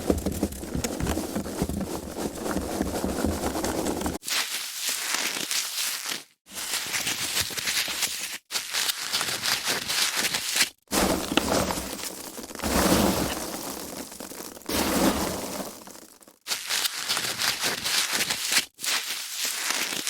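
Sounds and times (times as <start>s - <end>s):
foam packaging rustling: 0.0s - 20.0s.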